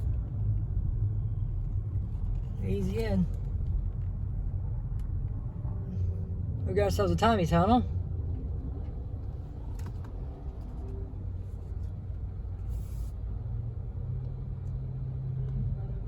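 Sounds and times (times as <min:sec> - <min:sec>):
low hum: 0:00.0 - 0:16.0
low rumble inside car: 0:00.0 - 0:16.0.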